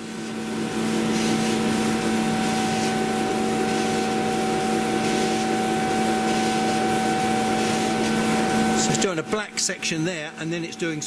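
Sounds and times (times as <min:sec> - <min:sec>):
steady hiss: 0:00.0 - 0:09.1
laser cutter machine whine: 0:00.0 - 0:11.0.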